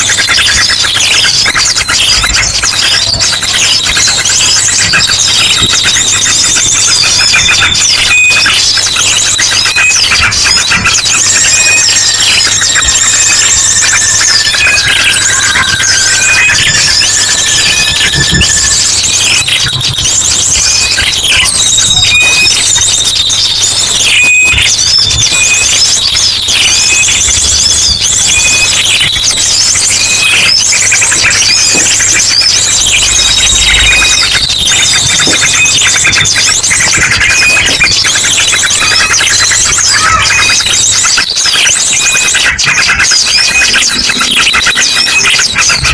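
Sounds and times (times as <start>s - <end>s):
birds chirping and trilling: 0.0s - 45.9s
drongo calls: 0.0s - 45.9s.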